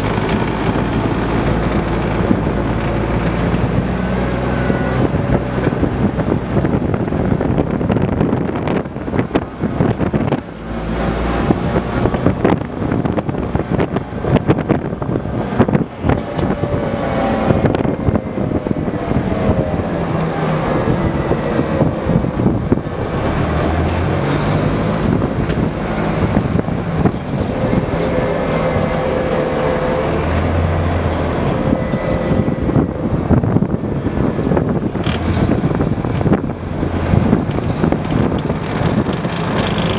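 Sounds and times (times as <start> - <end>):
diesel engine running: 0.0 - 39.9
rattle and rush of moving vehicle: 0.0 - 39.9.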